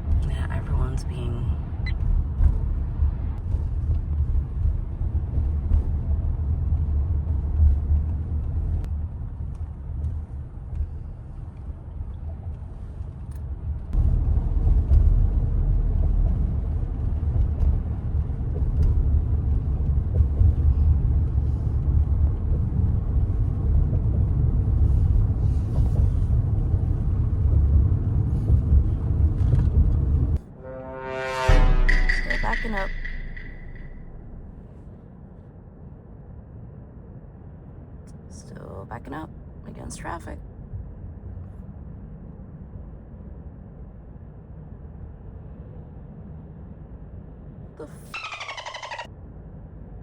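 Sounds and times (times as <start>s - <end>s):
car road rumble: 0.0s - 50.0s.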